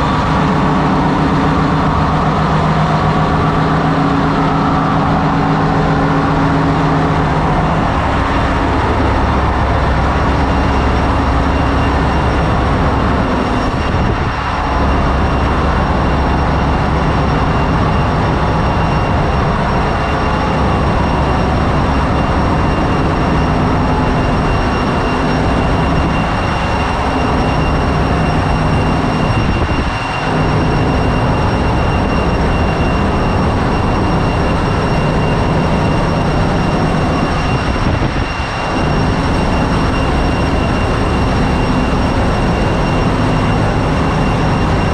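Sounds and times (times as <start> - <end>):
engine-room machinery humming: 0.0 - 44.9
thin high whines: 0.0 - 44.9.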